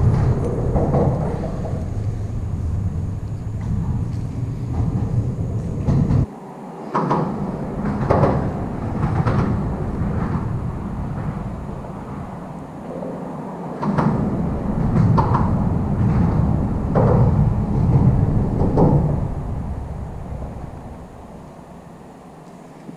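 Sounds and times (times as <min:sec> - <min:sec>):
low steady rumble: 0:00.0 - 0:06.3, 0:07.3 - 0:22.9.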